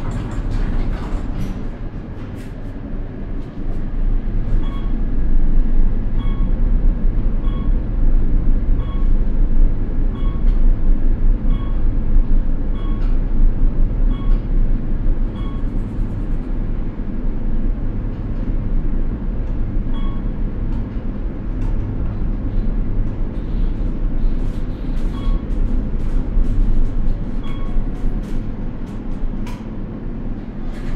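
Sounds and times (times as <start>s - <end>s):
elevator low rumble: 0.0s - 30.9s.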